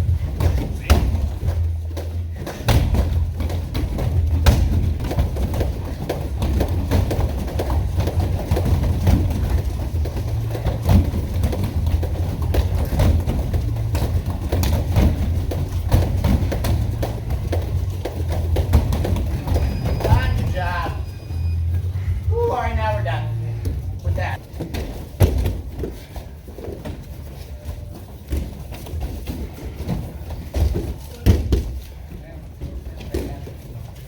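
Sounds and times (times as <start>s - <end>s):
thuds and scuffs on training mats: 0.0s - 21.5s, 23.6s - 34.0s.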